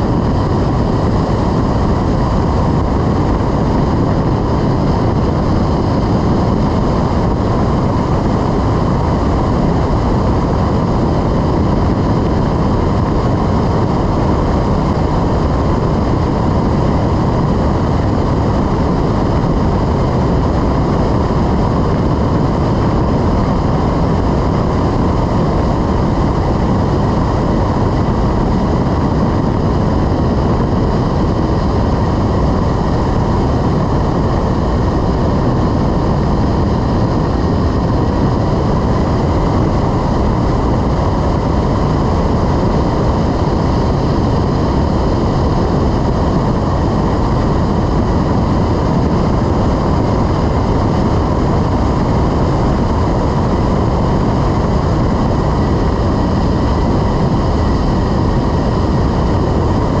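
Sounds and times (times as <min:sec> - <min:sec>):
faint steady whine: 0:00.0 - 1:00.0
wind rushing over microphone: 0:00.0 - 1:00.0.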